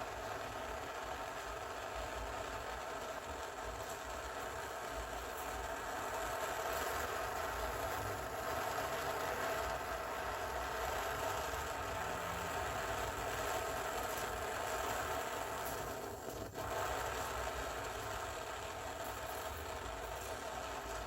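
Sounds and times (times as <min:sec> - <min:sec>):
steady whir with rushing hiss: 0:00.0 - 0:21.0.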